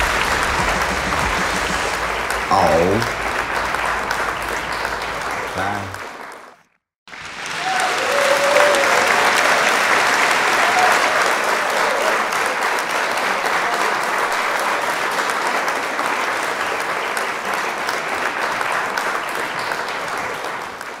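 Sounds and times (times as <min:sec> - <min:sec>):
audience applause: 0:00.0 - 0:21.0.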